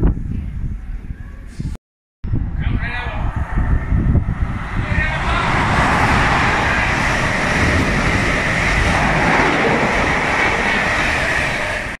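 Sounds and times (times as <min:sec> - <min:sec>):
train passing fast: 0:02.3 - 0:12.0.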